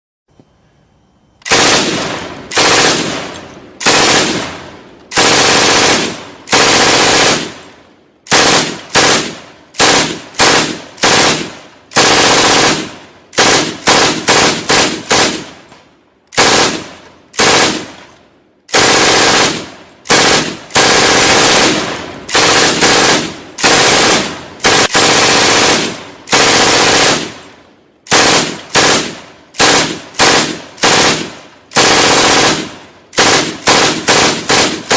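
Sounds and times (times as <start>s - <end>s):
automatic gunfire bursts: 1.5s - 7.7s, 8.3s - 15.7s, 16.3s - 34.9s.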